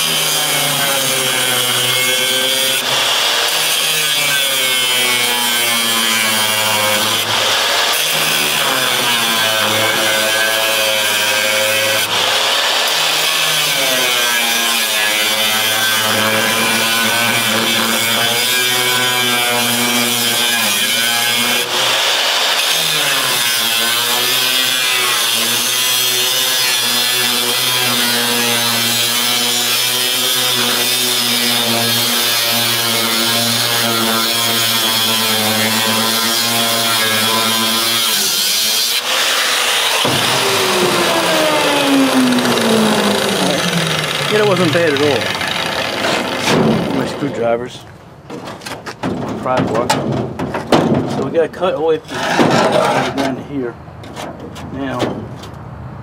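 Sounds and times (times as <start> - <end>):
angle grinder cutting steel: 0.0 - 47.5.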